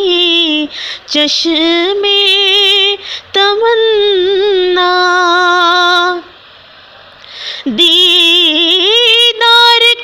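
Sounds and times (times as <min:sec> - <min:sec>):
woman singing: 0:00.0 - 0:06.4, 0:07.6 - 0:10.0.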